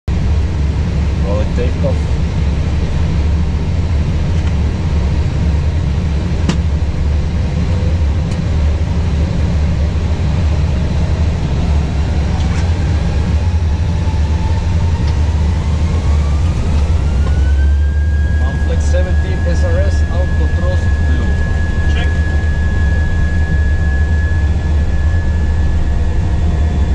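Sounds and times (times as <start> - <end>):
jet engines rumbling and whining: 0.1 - 26.9.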